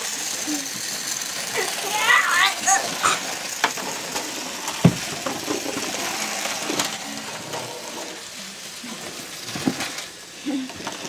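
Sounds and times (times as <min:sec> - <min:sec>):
toy trucks whirring: 0:00.0 - 0:11.0.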